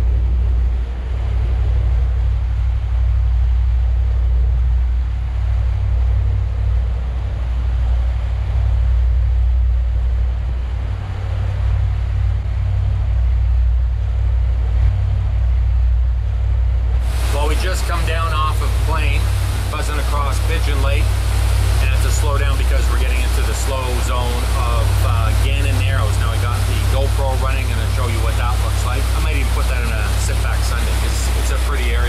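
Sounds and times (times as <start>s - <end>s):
boat engine rumble: 0.0s - 32.0s
water along hull: 0.0s - 32.0s
wind buffeting microphone: 0.0s - 32.0s.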